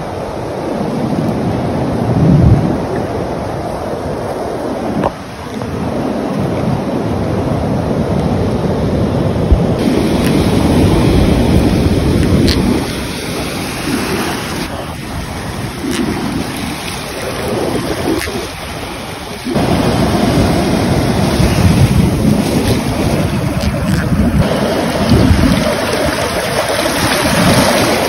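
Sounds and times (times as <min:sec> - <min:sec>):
surf washing up beach: 0:00.0 - 0:28.0
wind buffeting microphone: 0:00.0 - 0:28.0.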